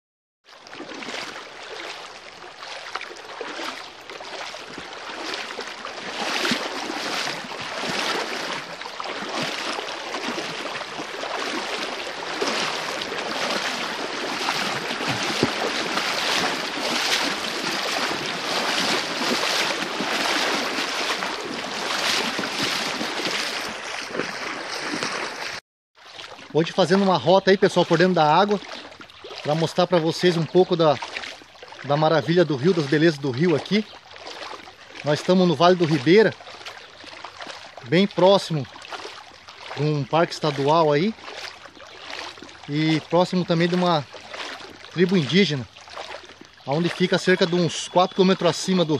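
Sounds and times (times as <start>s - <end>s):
rushing river water: 0.5s - 48.9s.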